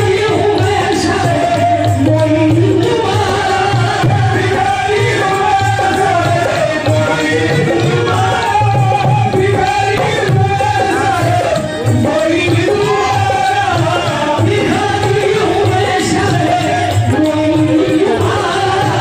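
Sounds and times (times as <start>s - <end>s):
hand drum beat: 0.0s - 19.0s
men singing devotional song: 0.0s - 19.0s.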